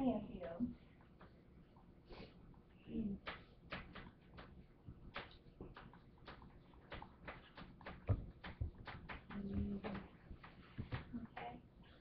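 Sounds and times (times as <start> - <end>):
faint irregular clicks and taps: 0.4 - 1.9, 3.2 - 11.6.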